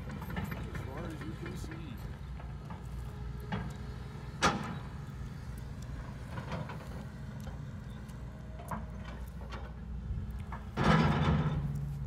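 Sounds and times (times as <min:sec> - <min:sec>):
metallic clanks from tracks: 0:00.0 - 0:05.4, 0:06.0 - 0:12.0
diesel engine running: 0:00.0 - 0:12.0.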